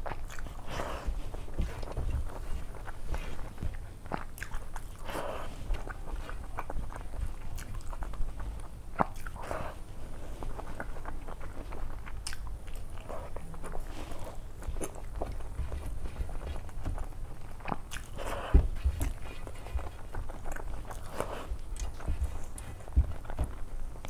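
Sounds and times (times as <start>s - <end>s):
chewing and wet mouth sounds: 0.0s - 24.0s.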